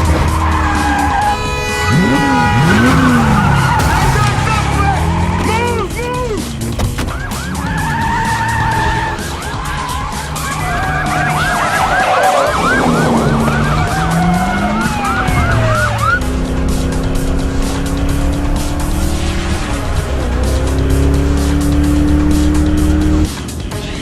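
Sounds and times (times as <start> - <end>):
police sirens yelping: 0.0 - 23.1
car engines revving: 0.0 - 24.0.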